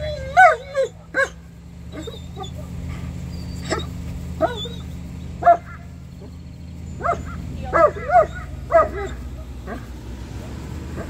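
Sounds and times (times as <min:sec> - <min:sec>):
dog whining: 0:00.0 - 0:09.8
dog yipping and barking: 0:00.0 - 0:11.0.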